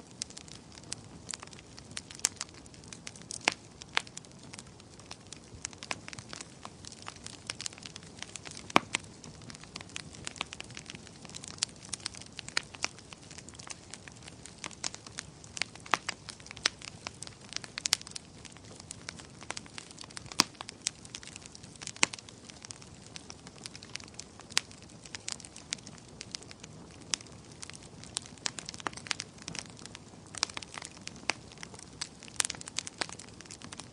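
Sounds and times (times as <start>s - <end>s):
burning wood crackling and popping: 0.0s - 33.9s
flames rushing: 0.2s - 33.9s.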